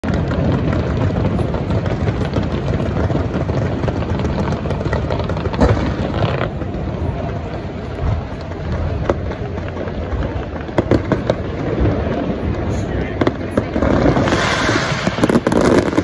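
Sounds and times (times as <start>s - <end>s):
sharp firework bang: 0.0s - 7.3s, 8.0s - 16.0s
fireworks crackling and booming: 0.0s - 16.0s.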